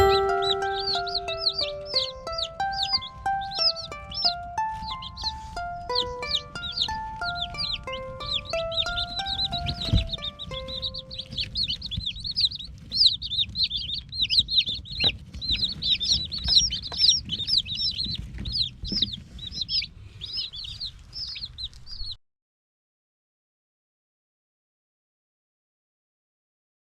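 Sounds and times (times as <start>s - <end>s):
chicks peeping: 0.0s - 22.2s.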